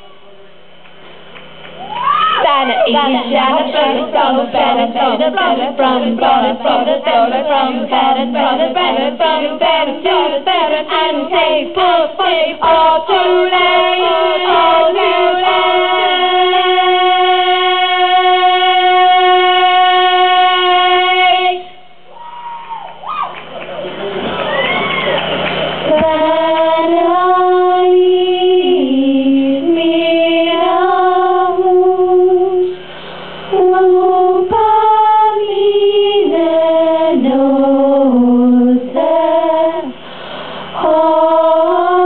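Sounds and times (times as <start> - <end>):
women singing in harmony: 2.4 - 22.0, 25.9 - 32.8, 33.5 - 40.0, 40.8 - 42.0.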